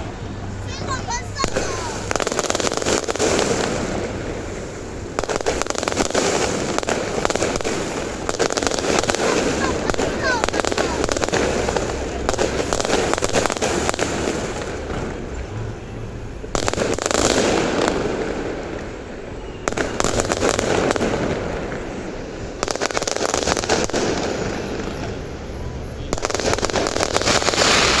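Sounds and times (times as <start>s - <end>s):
fireworks crackling volleys: 0.0s - 28.0s
rumble of firework bursts: 0.0s - 28.0s.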